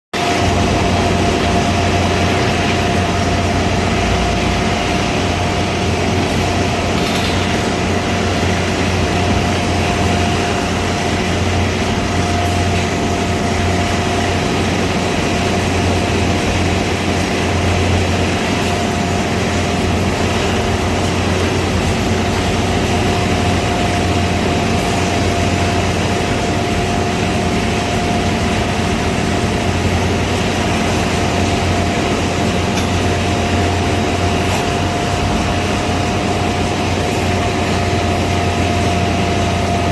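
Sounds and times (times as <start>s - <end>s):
drill rig droning with high whine: 0.2s - 39.9s.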